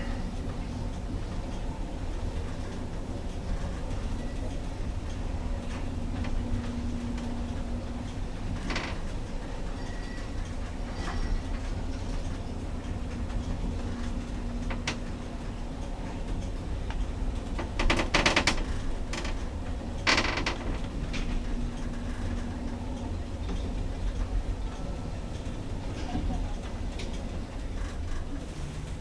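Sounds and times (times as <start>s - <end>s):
lift machinery rumbling: 0.0s - 29.0s
rattling noises: 4.6s - 9.8s, 10.4s - 29.0s.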